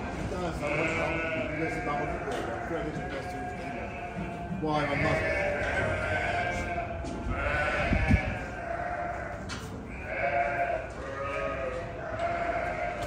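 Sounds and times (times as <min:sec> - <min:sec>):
sheep bleating: 0:00.6 - 0:13.0.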